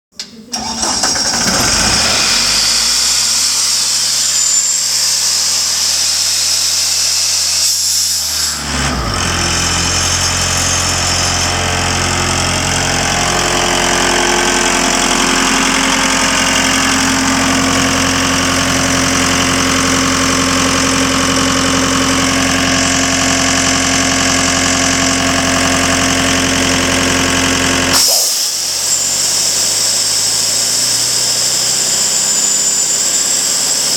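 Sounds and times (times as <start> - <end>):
air compressor diesel engine running: 0.4 - 33.9.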